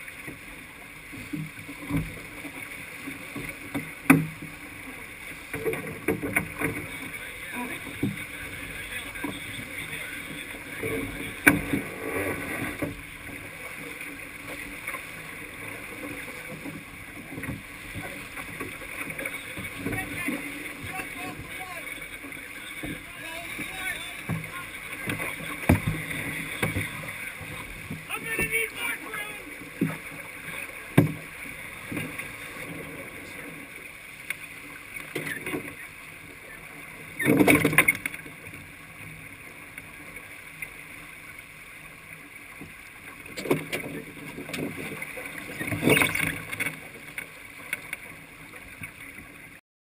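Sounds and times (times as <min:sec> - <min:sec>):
water rushing along hull: 0:00.0 - 0:49.6.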